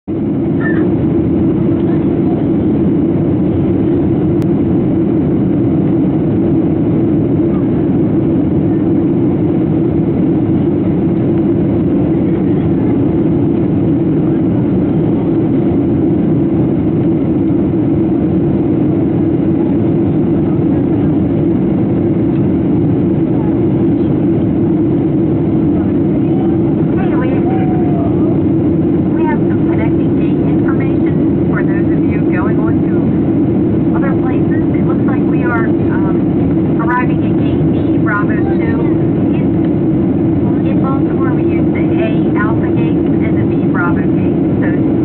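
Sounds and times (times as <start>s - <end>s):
airliner cabin drone: 0.1s - 45.0s.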